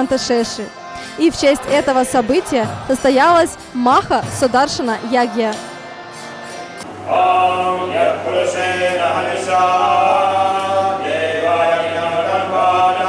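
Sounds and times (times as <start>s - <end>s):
voices chanting: 0.0s - 5.5s, 6.8s - 13.0s.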